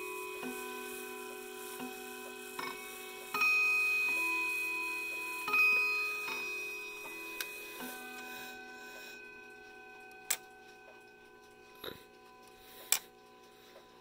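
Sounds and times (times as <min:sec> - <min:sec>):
clock chime rods ringing: 0:00.0 - 0:14.0.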